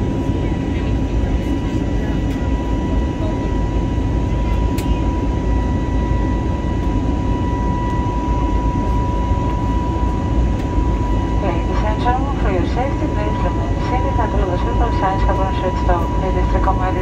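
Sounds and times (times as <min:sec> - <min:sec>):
jet engine cabin rumble: 0:00.0 - 0:17.0
steady engine whine: 0:00.0 - 0:17.0.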